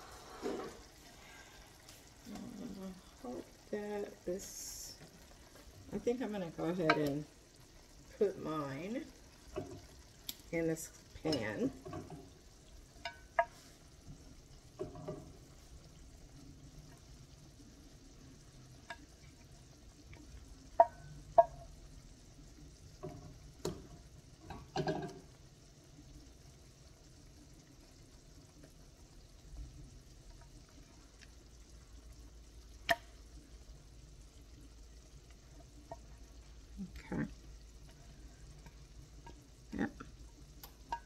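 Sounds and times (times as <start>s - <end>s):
frying sizzle: 0.0s - 41.0s.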